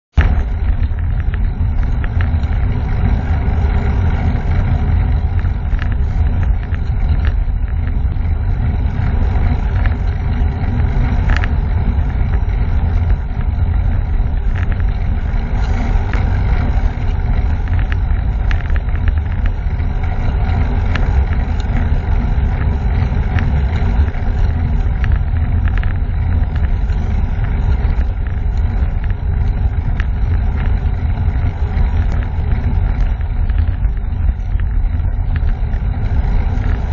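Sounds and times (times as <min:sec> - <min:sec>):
tyre and road noise: 0:00.0 - 0:36.9
wind buffeting microphone: 0:00.1 - 0:36.9.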